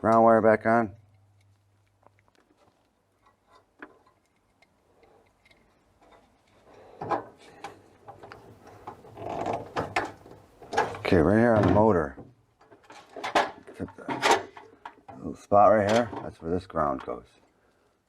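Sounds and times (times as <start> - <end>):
plastic and metal parts rattling: 2.4 - 17.2.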